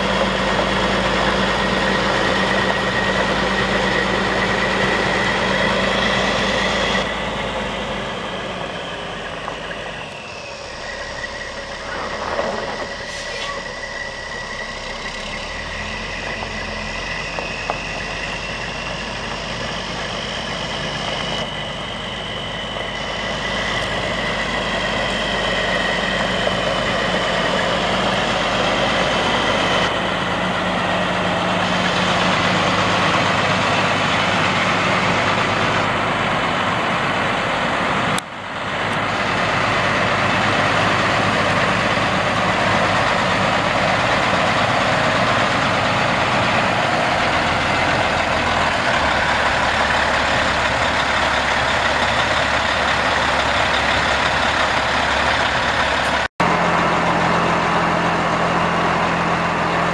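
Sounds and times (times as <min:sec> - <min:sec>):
diesel truck engine running: 0:00.0 - 0:59.9
tyres on gravel: 0:00.0 - 0:59.9.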